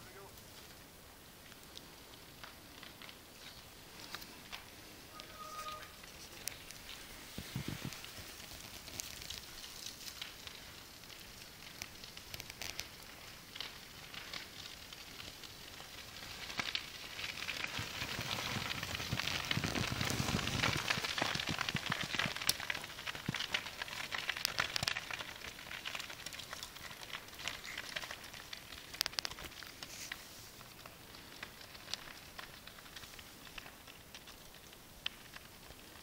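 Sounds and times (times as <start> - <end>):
bike tyres crunching through snow: 1.8 - 33.9.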